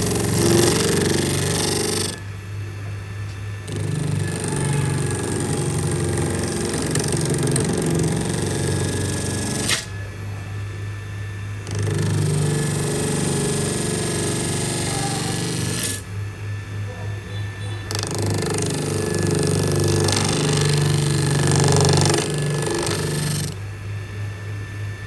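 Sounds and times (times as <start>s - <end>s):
motor-driven machine humming: 0.0s - 25.0s.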